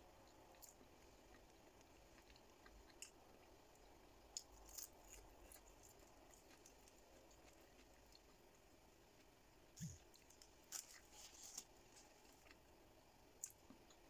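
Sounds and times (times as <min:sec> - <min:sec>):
faint chewing with crunches: 0:00.0 - 0:14.0.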